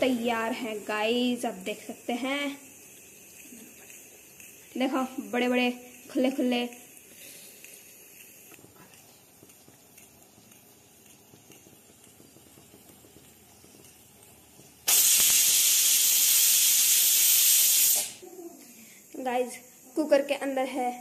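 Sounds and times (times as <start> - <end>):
pressure cooker steam hissing: 0.0 - 21.0.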